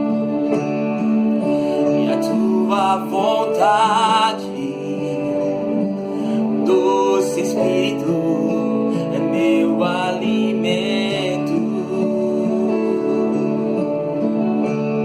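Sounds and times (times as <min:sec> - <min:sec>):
sustained keyboard pad chords: 0:00.0 - 0:15.0
wavering melodic phrase: 0:01.1 - 0:14.4.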